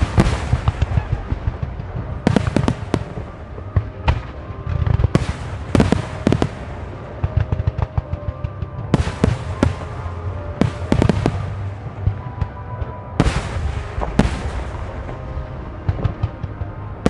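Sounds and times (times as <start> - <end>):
fireworks booming: 0.0 - 17.0
music playing: 0.0 - 17.0.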